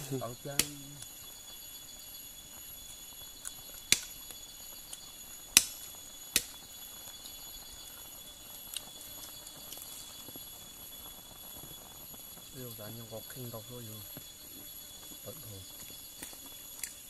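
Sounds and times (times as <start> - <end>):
campfire wood popping: 0.0 - 17.0
insects trilling: 0.0 - 17.0.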